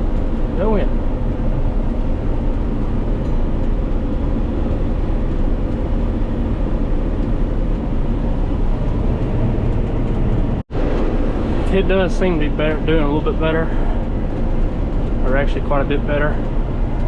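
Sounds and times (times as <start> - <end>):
combine harvester machinery drone: 0.0 - 17.0.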